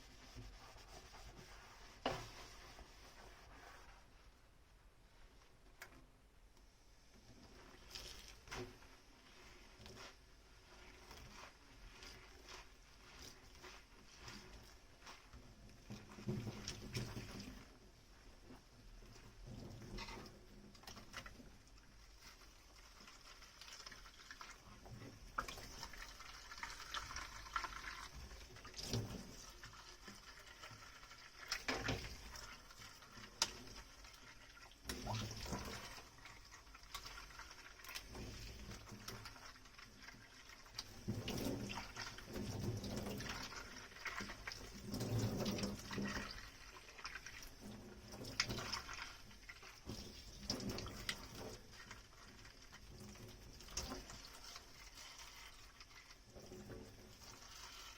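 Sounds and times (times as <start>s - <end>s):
water running and splashing: 7.5s - 17.8s, 19.2s - 57.9s.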